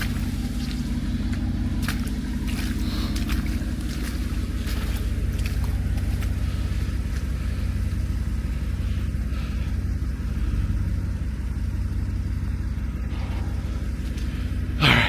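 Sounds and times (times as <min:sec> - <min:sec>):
engine idling low rumble: 0:00.0 - 0:15.0.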